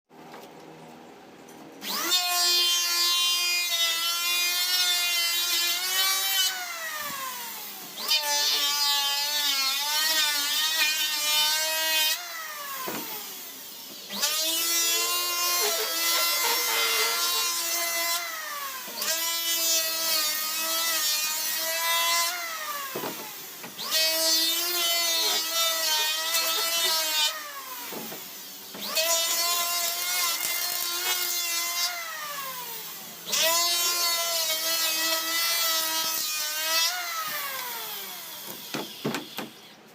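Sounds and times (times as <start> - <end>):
power tool cutting wood: 1.8 - 39.9.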